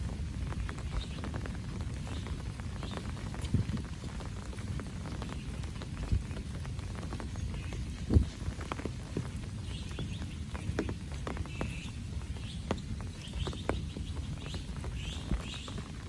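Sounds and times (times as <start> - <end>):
rain dripping: 0.0 - 16.0.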